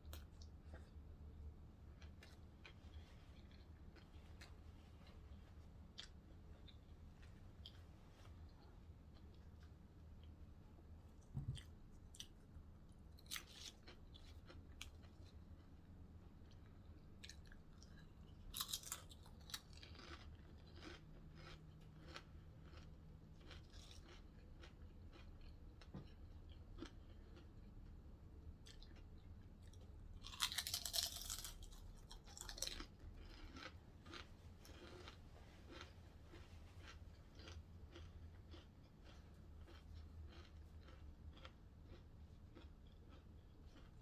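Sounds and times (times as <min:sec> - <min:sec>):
person chewing sandwich: 0:00.1 - 0:44.0.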